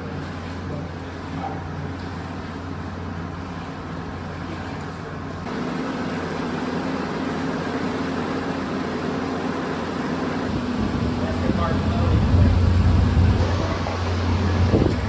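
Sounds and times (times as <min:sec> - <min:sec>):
low mechanical drone with hiss: 0:00.0 - 0:15.0.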